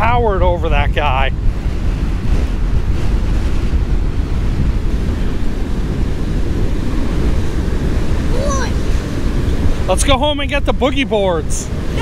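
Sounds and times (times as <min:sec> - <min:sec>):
large waves breaking: 0:00.0 - 0:12.0
wind buffeting microphone: 0:00.0 - 0:12.0.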